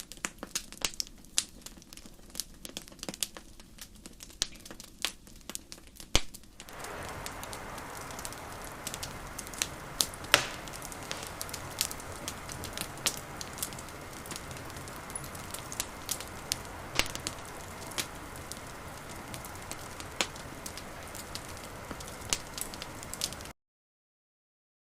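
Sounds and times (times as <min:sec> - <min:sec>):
campfire burning rush: 0:00.0 - 0:23.5
fire pops and cracks: 0:00.0 - 0:23.5.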